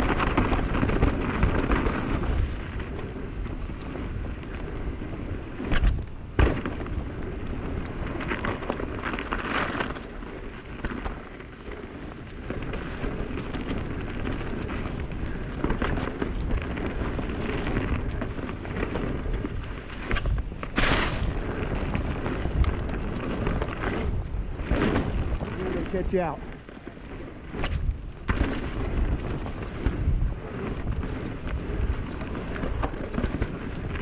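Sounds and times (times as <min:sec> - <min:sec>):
bike tyres crackling on dirt: 0:00.0 - 0:34.0.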